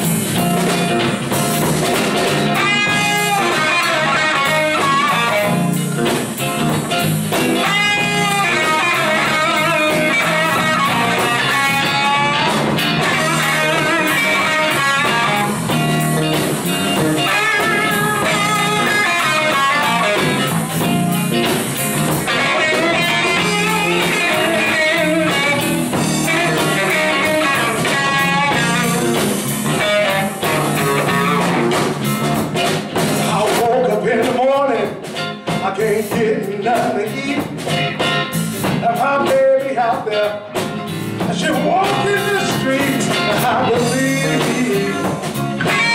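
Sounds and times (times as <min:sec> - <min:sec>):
electric guitar solo: 0:00.0 - 0:32.9, 0:41.8 - 0:45.9
band drums: 0:00.0 - 0:45.9.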